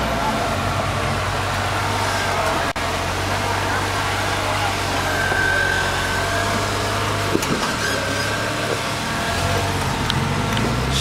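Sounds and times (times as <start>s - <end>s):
car engine low drone: 0.0s - 11.0s.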